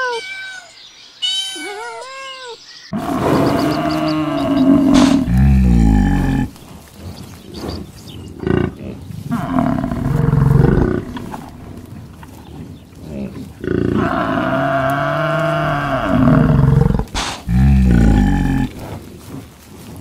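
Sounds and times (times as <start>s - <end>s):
water buffalo lowing: 2.9s - 20.0s.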